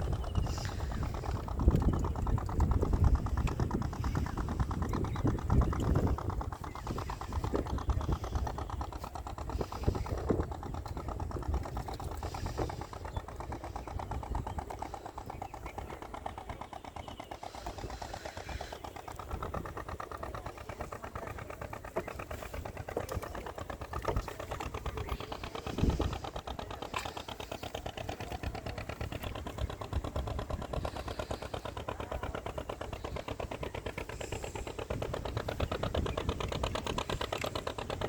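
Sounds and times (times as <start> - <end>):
boat engine chugging: 0.0 - 38.0
engine knocks: 0.0 - 38.0.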